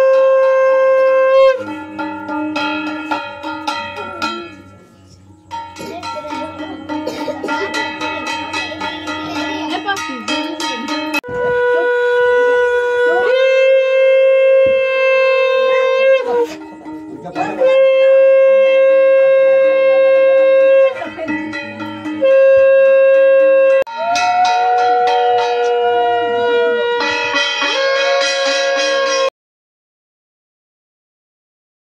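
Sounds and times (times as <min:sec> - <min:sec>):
conch shell blasts: 0:00.0 - 0:29.3.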